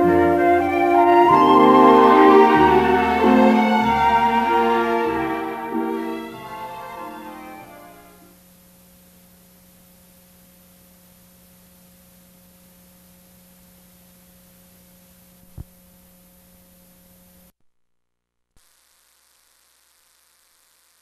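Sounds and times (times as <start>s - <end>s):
electrical hum and hiss: 0.0s - 17.5s.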